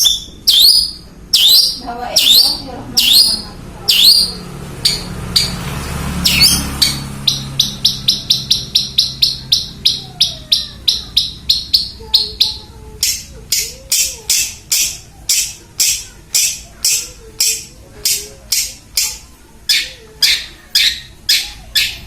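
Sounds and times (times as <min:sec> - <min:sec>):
shrike harsh high-pitched calls: 0:00.0 - 0:22.0.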